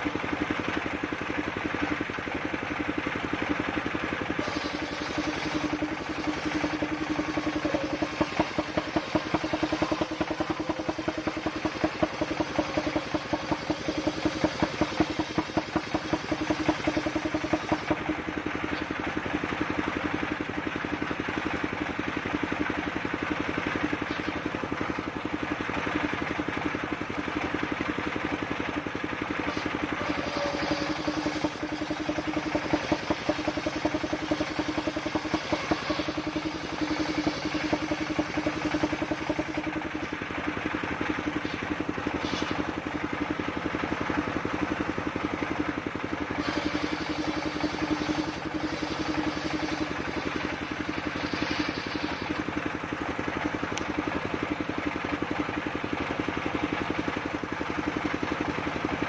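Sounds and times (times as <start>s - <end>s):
sawmill engine running steadily: 0.0s - 59.0s.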